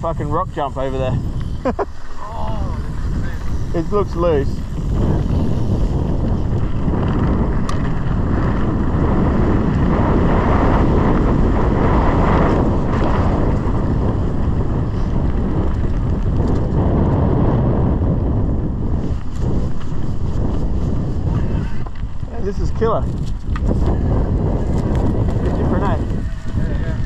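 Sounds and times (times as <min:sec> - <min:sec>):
bike rumbling over ground: 0:00.0 - 0:27.0
wind buffeting microphone: 0:00.0 - 0:27.0.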